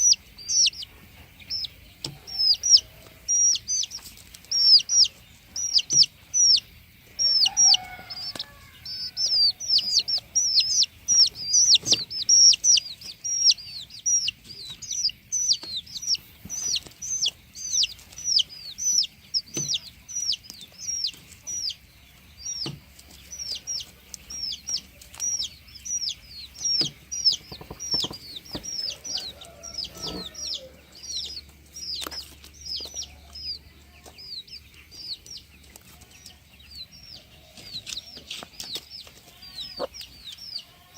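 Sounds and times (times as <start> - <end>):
chicks peeping: 0.0 - 40.9
hen clucking: 0.0 - 40.9.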